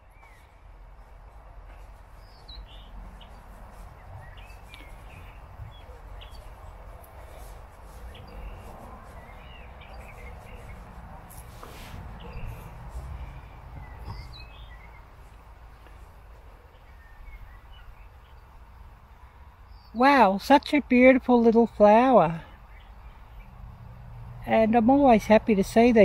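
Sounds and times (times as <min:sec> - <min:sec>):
low background noise: 0:00.0 - 0:26.0
songbirds chirping: 0:00.0 - 0:26.0.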